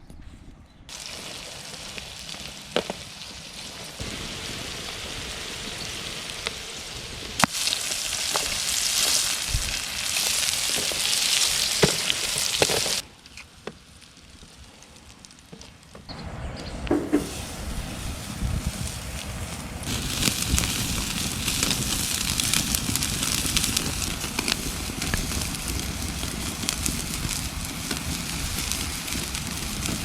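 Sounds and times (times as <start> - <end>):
food sizzling over fire: 0.9 - 16.1, 16.8 - 30.0
fire popping: 0.9 - 30.0.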